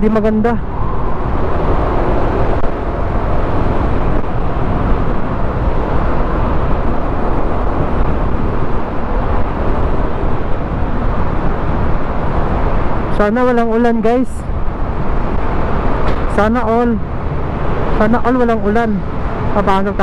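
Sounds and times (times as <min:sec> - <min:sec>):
motorcycle road noise: 0:00.0 - 0:20.0
wind rush over microphone: 0:00.0 - 0:20.0.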